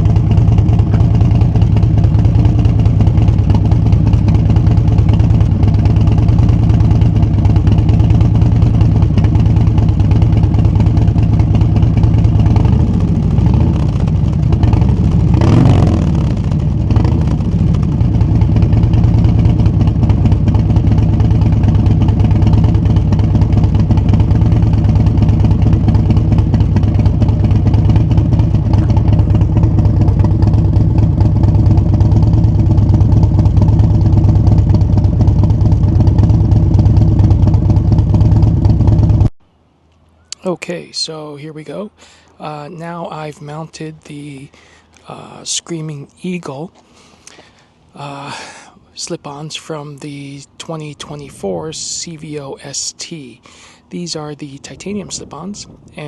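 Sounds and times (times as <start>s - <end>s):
motorcycle engine idling and revving: 0.0s - 39.4s, 42.5s - 56.0s.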